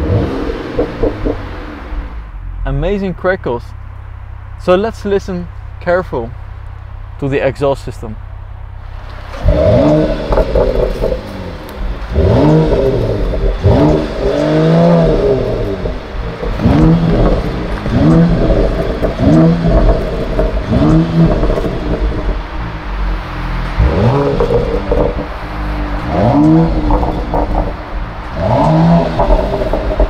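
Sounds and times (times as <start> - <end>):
car engine revving: 0.0 - 30.0
exhaust crackles: 0.0 - 30.0.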